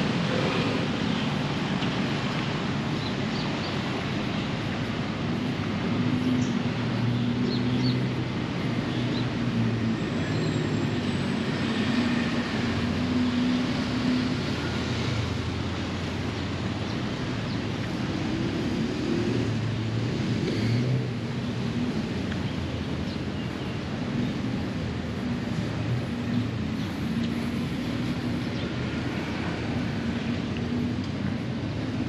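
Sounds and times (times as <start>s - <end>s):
road traffic hiss: 0.0s - 32.0s.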